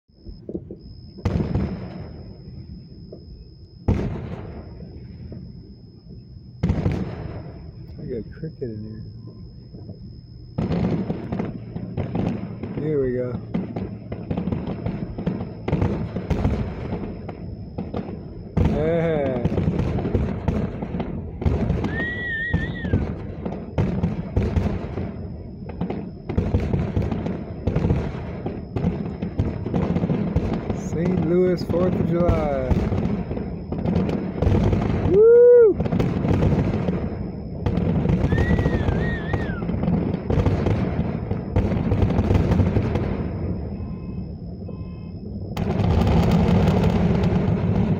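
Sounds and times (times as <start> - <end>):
continuous low rumble: 0.1 - 47.9
fireworks bursting with booms: 0.1 - 47.9
warbling firework whistle: 0.1 - 47.9.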